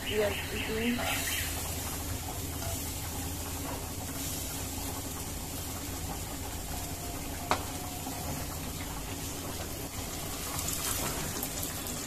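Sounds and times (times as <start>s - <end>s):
faint hiss of frying: 0.0s - 12.0s.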